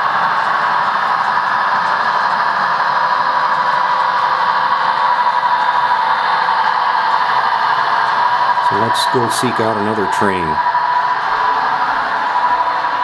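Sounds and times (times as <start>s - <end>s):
faint motor whine: 0.0s - 13.0s
model train rolling hiss: 0.0s - 13.0s.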